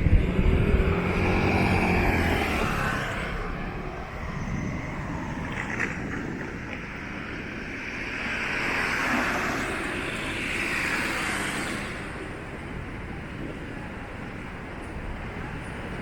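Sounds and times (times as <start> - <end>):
background traffic: 0.0 - 16.0
car passing: 0.0 - 16.0.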